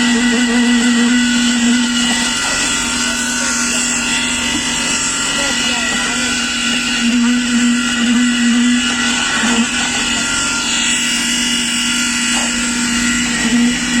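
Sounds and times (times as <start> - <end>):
machinery high-pitched hum: 0.0 - 14.0.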